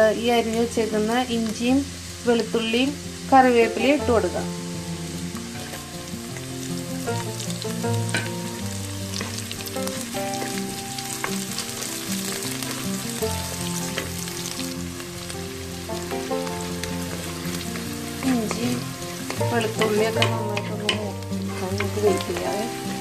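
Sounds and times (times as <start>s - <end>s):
background music: 0.0s - 23.0s
food sizzling in hot oil: 0.0s - 23.0s.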